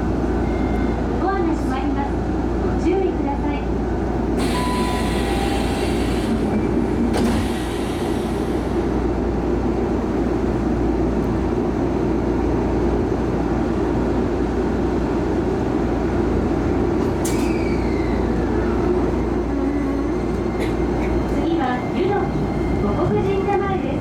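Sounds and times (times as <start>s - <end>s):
electric train hum and rumble: 0.0s - 24.0s.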